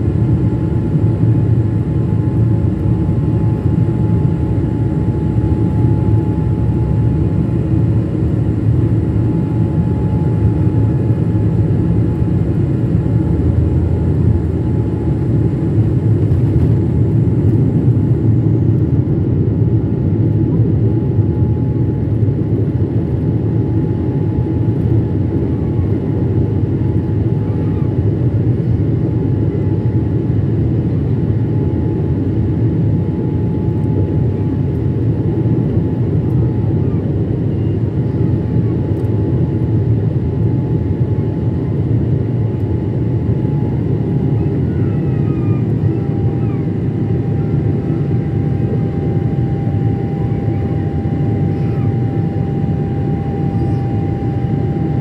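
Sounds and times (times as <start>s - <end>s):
jet engine rumble and whine: 0.0s - 55.0s.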